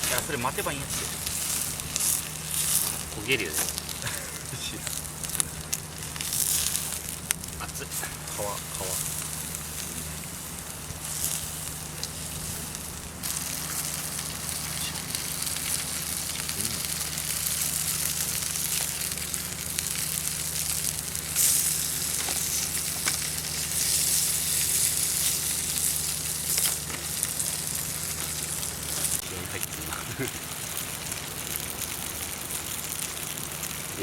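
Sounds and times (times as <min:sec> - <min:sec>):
food sizzling over campfire: 0:00.0 - 0:34.0
wood fire crackling: 0:00.0 - 0:34.0.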